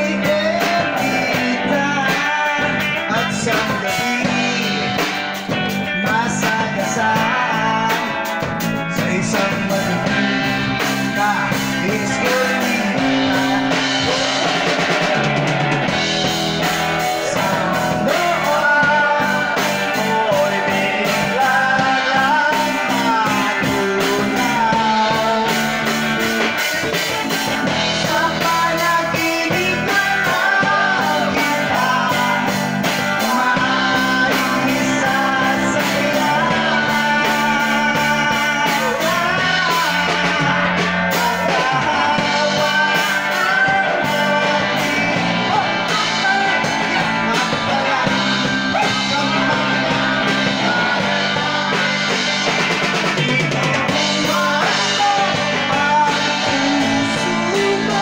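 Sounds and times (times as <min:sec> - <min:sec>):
drum kit beat: 0:00.0 - 0:58.0
electric guitar: 0:00.0 - 0:58.0
person singing into a microphone: 0:00.0 - 0:58.0.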